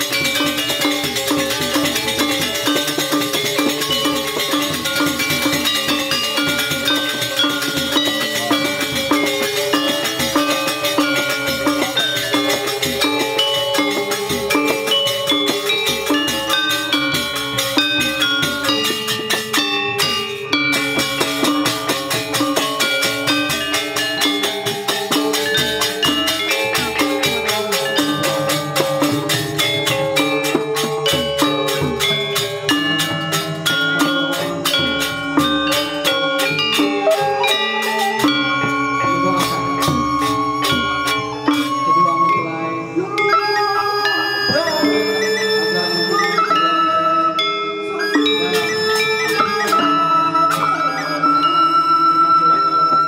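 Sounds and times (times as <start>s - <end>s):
metallophone ensemble playing: 0.0s - 53.0s.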